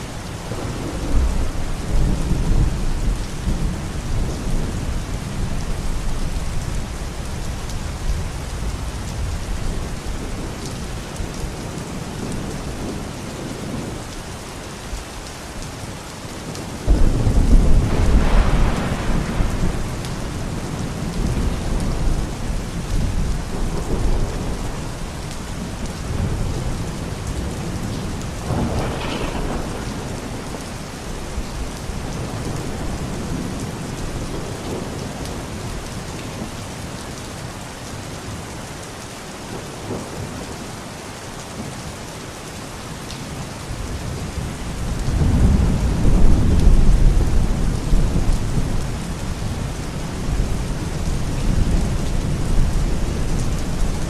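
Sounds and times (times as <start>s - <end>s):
steady rain: 0.0s - 54.0s
low rolling thunder: 0.4s - 14.2s, 16.4s - 36.5s, 43.3s - 54.0s.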